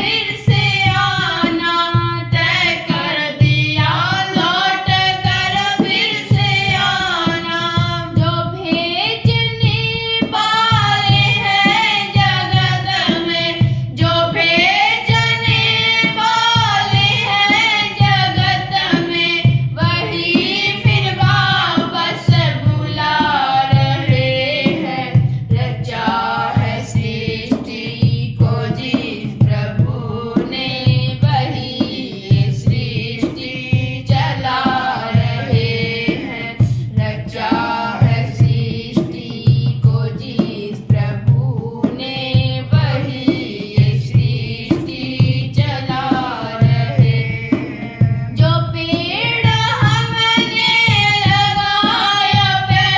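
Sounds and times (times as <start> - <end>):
instrumental accompaniment: 0.0 - 52.9
steady low drum beat: 0.0 - 52.9
woman singing devotional song: 0.0 - 52.9.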